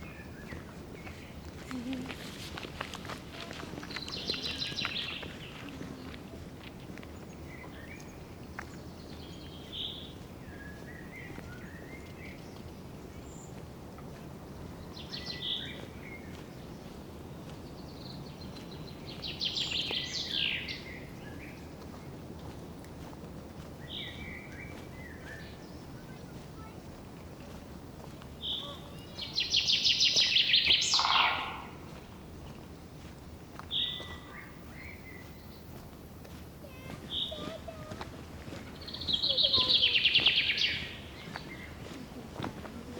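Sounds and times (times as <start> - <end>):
songbirds singing: 0.0 - 42.9.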